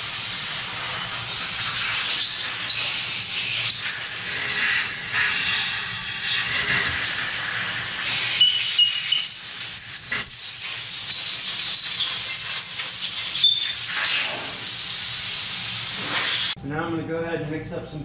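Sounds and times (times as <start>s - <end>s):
compressed-air blow gun hissing: 0.0s - 16.6s.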